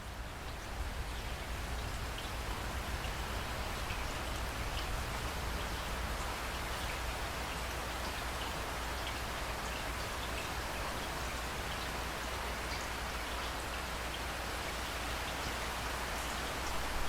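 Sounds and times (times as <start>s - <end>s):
rain pouring on hard surfaces: 0.0s - 17.0s.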